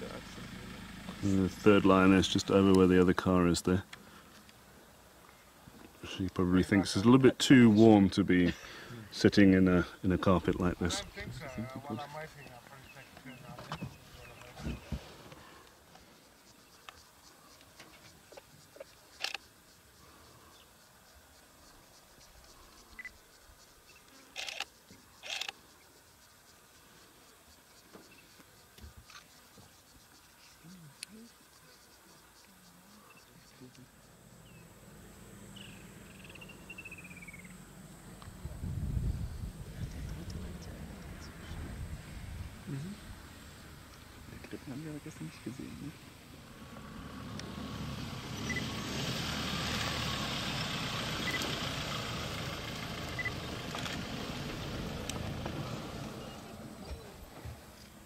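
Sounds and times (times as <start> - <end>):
vehicle engine idling: 0.0 - 23.8, 25.2 - 58.0
insects buzzing softly: 0.0 - 58.0.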